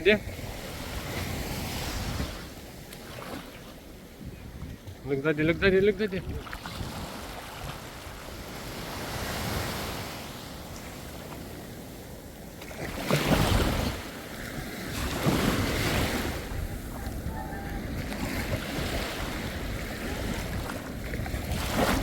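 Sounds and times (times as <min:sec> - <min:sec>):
wind buffeting microphone: 0:00.0 - 0:02.9, 0:03.8 - 0:09.7, 0:13.1 - 0:22.0
waves breaking on shore: 0:00.0 - 0:22.0.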